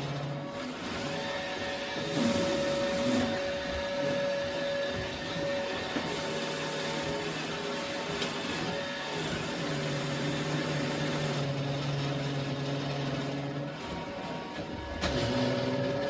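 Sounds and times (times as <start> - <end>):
robot vacuum motor whine: 0.0 - 16.0.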